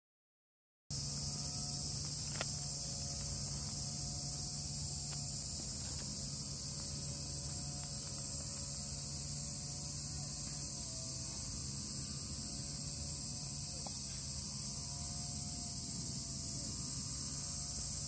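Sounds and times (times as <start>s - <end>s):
insects chirping: 0.9s - 18.0s.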